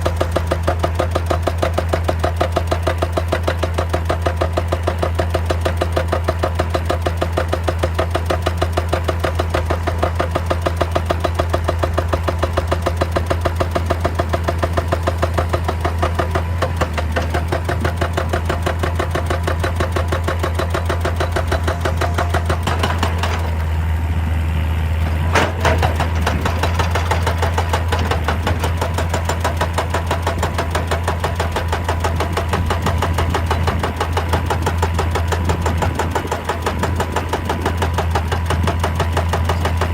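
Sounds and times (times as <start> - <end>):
diesel engine pulsing: 0.0 - 39.9.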